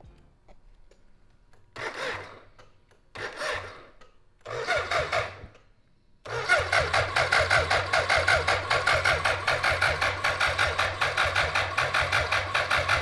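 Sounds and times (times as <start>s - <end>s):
electric starter cranking engine: 1.8s - 5.6s, 6.2s - 13.0s.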